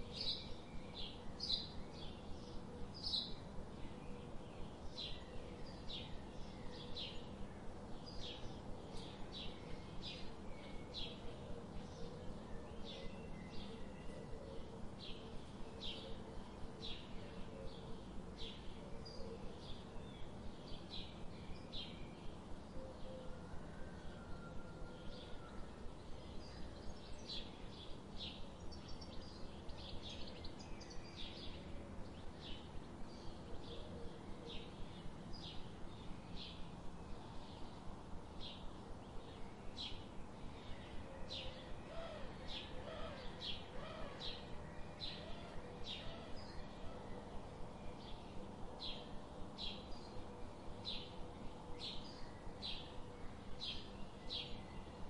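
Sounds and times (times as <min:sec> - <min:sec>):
forest ambience: 0:00.0 - 0:55.0
low steady hum: 0:00.0 - 0:55.0.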